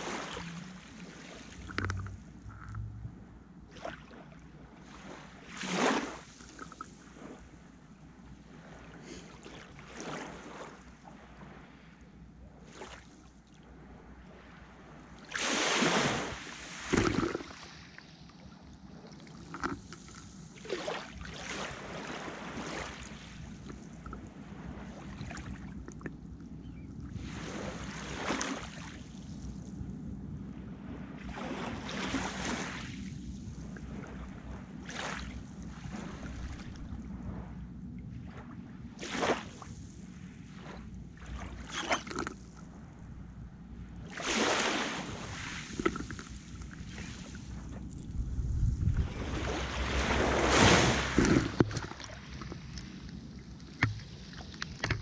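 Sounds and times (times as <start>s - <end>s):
waves washing onto shore: 0.0s - 3.0s, 3.7s - 12.0s, 12.6s - 26.5s, 27.1s - 29.8s, 30.6s - 43.0s, 43.8s - 55.0s.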